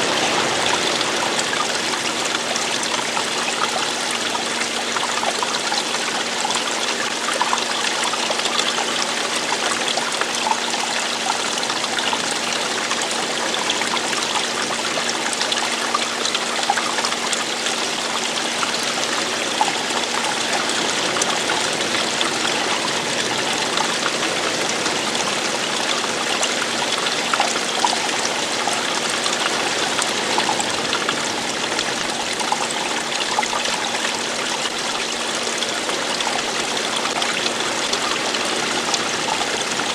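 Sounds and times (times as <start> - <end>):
stream splashing and trickling: 0.0 - 39.9.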